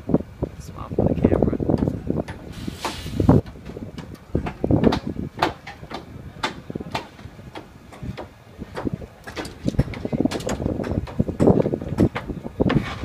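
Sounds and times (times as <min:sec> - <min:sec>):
low rumbles: 0:00.0 - 0:13.0.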